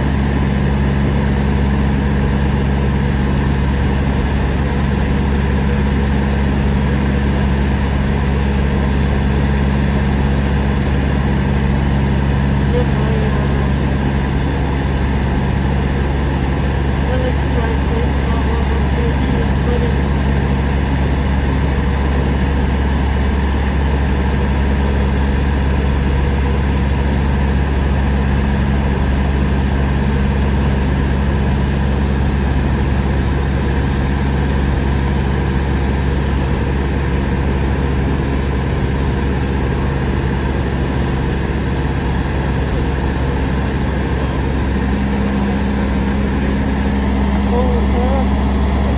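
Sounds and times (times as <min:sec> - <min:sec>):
airplane engine droning in cabin: 0:00.0 - 0:48.9.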